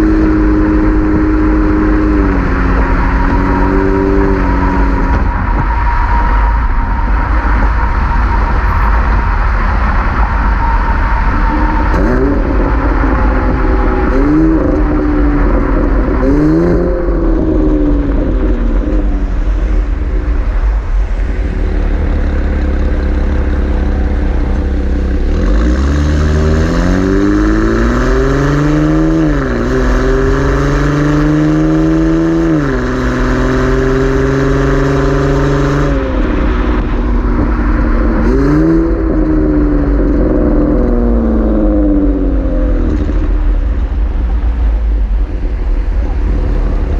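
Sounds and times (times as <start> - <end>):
car engine accelerating: 0.0 - 46.9
low rumble: 0.0 - 46.9.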